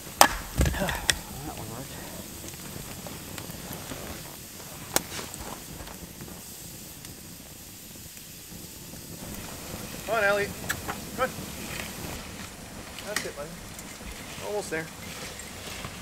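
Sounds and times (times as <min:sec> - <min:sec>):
campfire crackling and hissing: 0:00.0 - 0:16.0
sharp pop of fire: 0:00.0 - 0:16.0.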